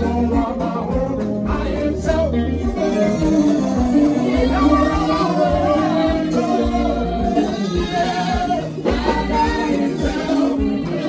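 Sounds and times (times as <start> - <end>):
electric guitar: 0.0 - 11.0
man singing through microphone: 0.0 - 11.0
steady low drum beat: 0.0 - 11.0.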